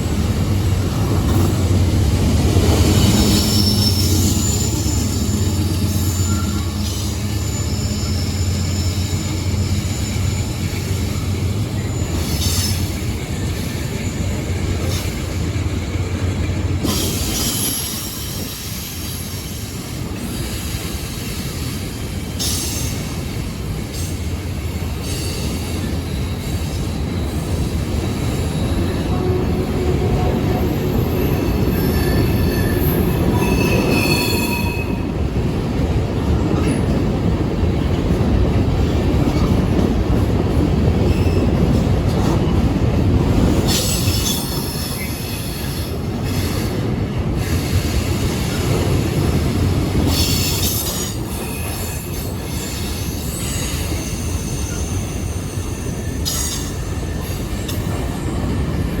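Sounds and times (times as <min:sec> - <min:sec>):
train rumbling past: 0:00.0 - 0:59.0
wheels squealing on rails: 0:00.0 - 0:59.0.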